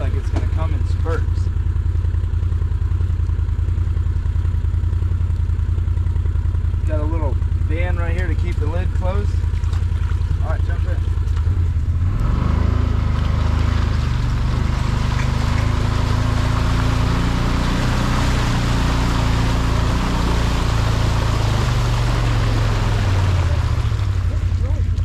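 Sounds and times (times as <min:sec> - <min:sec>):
vehicle engine running: 0:00.0 - 0:25.0
water splashing from tyres: 0:00.0 - 0:25.0.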